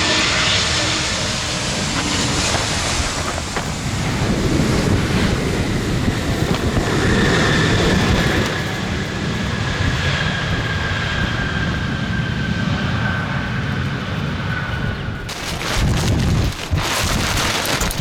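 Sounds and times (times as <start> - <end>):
jet airliner engine noise: 0.0 - 18.0
steady high whine: 0.0 - 18.0
wind buffeting microphone: 0.0 - 18.0.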